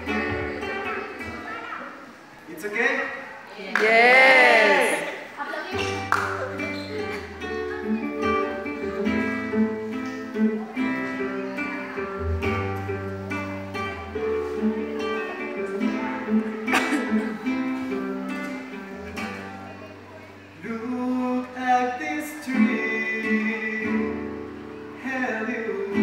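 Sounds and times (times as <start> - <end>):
fingerstyle acoustic guitar: 0.0 - 2.0, 5.7 - 26.0.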